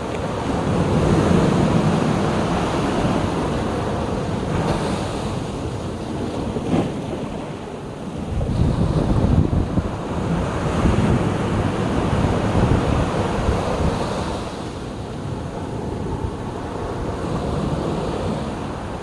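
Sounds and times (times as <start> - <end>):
sea waves breaking on shore: 0.0 - 19.0
wind buffeting microphone: 0.0 - 19.0.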